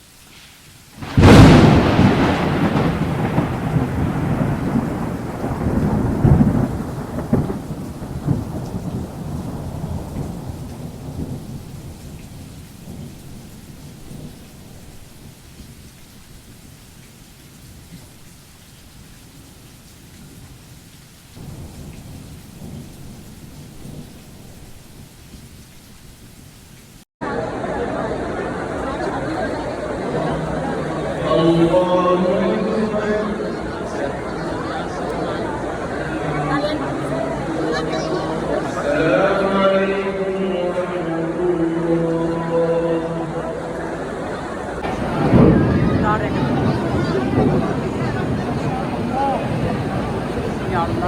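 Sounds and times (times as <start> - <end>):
steady rain: 0.0 - 51.0
thunder rumbling: 1.0 - 16.7, 21.4 - 26.0, 27.2 - 51.0.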